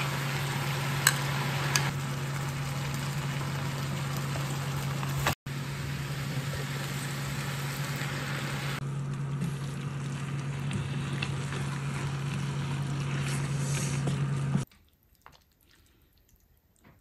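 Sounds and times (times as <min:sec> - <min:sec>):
food sizzling in a frying pan: 0:00.0 - 0:14.6.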